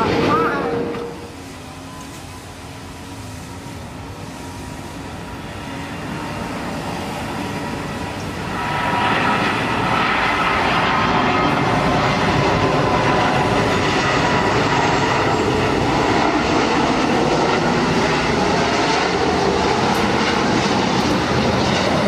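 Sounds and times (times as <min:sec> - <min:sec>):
jet engines on approach: 0:00.0 - 0:22.0.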